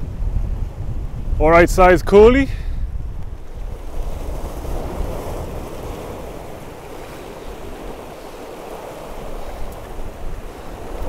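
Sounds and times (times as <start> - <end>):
wind buffeting microphone: 0.0 - 11.0
surf washing over rocks: 1.4 - 11.0.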